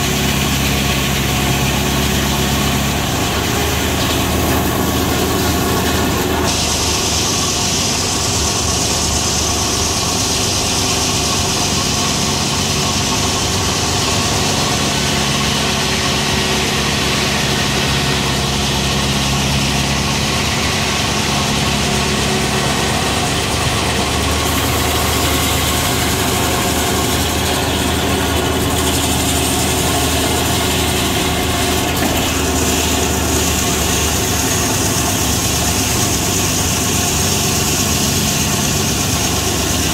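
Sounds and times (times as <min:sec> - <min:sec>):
saw blade cutting log hiss: 0:00.0 - 0:23.4, 0:24.2 - 0:39.9
sawmill engine running: 0:00.0 - 0:39.9
spinning saw blade: 0:00.0 - 0:39.9.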